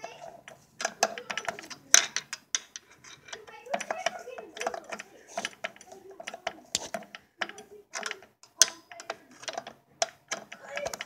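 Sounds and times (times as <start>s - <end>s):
metallic tool clicks and knocks: 0.0s - 11.0s.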